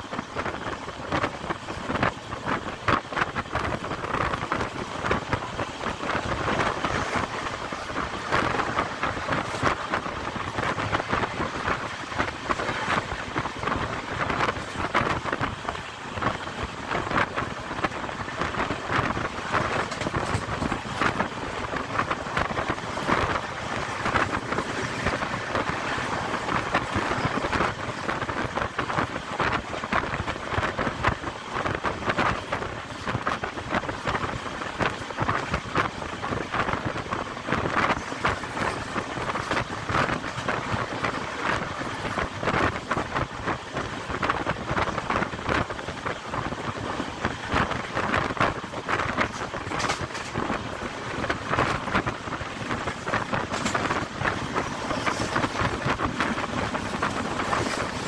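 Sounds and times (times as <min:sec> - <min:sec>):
train rattling: 0:00.0 - 0:58.0
wheel on rail noise: 0:00.0 - 0:58.0
wind buffeting microphone: 0:00.0 - 0:58.0.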